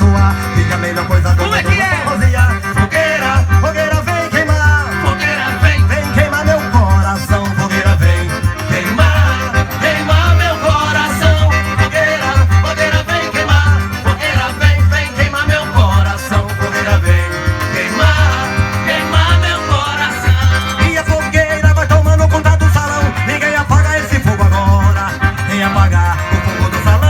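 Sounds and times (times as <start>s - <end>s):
accordion melody: 0.0s - 27.0s
heavy bass drum and bass beat: 0.0s - 27.0s.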